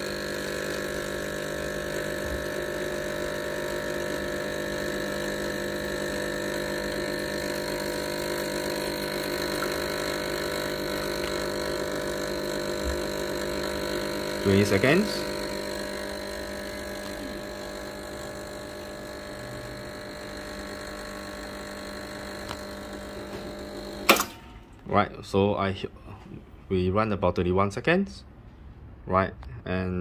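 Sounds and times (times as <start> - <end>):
espresso machine pump humming: 0.0 - 24.9.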